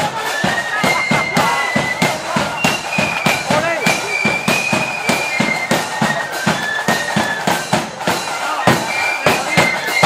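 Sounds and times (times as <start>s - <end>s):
high flute melody: 0.0s - 10.0s
steady drum beat: 0.0s - 10.0s.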